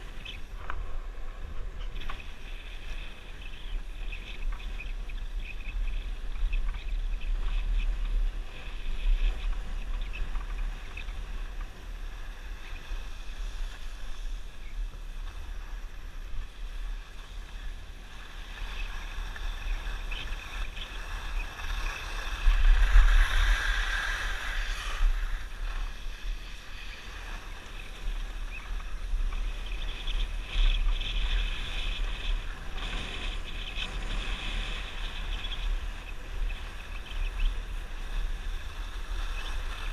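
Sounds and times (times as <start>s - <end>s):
skis scraping over snow: 0.0s - 39.9s
wind rumbling on microphone: 0.0s - 39.9s.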